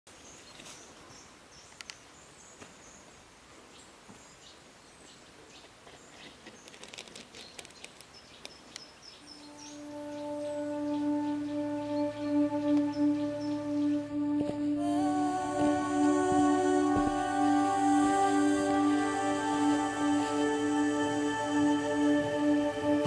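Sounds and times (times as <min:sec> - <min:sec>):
birds chirping: 0:00.1 - 0:23.0.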